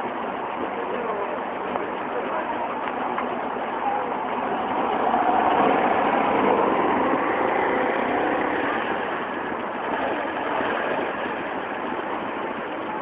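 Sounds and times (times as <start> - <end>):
old car engines running: 0.0 - 13.0.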